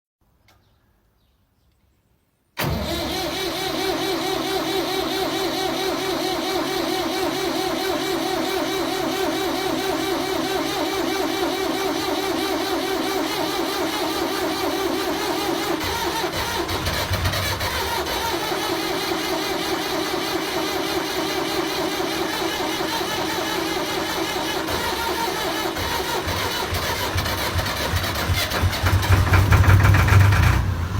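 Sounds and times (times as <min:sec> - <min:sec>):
truck engine cranking: 0:02.6 - 0:30.9.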